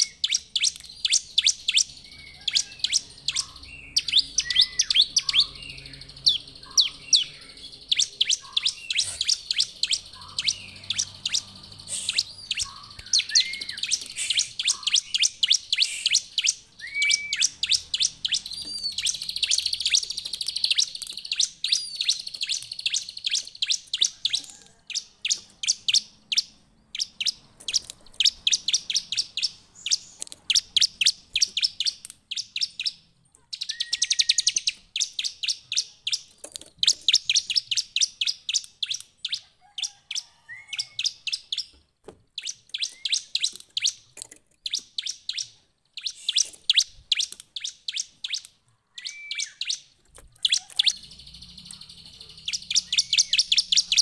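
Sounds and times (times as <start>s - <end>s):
bird singing sharp high chipping notes: 0.0s - 39.4s, 40.5s - 54.0s.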